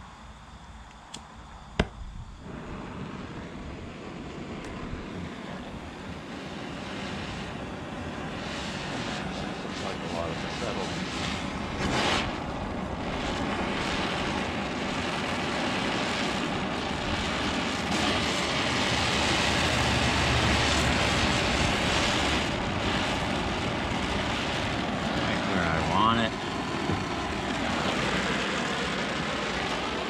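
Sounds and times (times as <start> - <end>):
welding torch flame roaring: 0.0 - 30.0.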